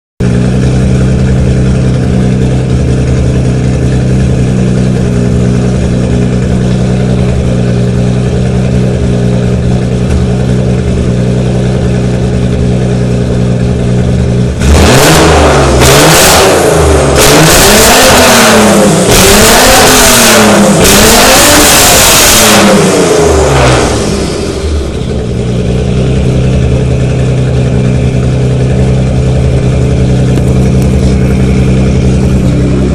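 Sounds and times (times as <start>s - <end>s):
car engine idling and revving: 0.2s - 32.9s.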